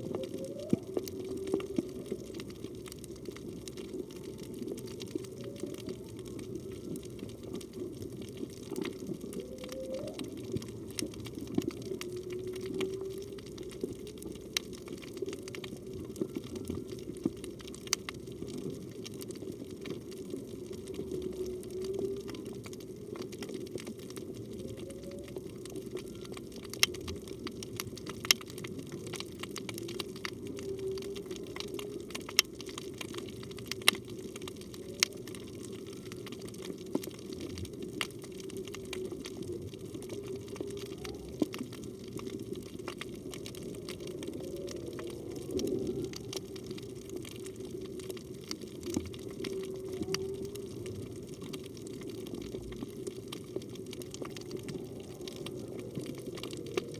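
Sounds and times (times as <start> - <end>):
whale song moans: 0.0 - 2.8, 4.8 - 7.8, 8.4 - 17.4, 20.6 - 23.8, 24.4 - 27.4, 29.8 - 33.4, 34.1 - 56.9
water noise: 0.0 - 56.9.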